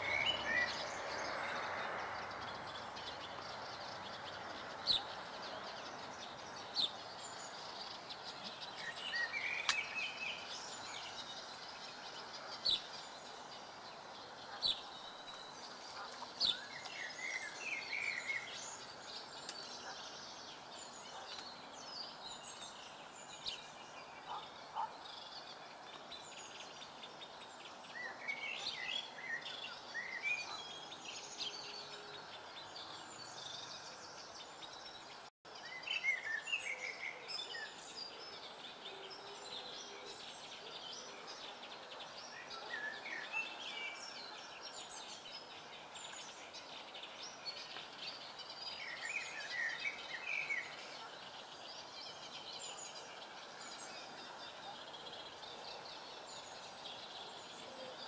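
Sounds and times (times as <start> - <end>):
songbirds chirping: 0.0 - 58.0
steady outdoor hiss: 0.0 - 58.0.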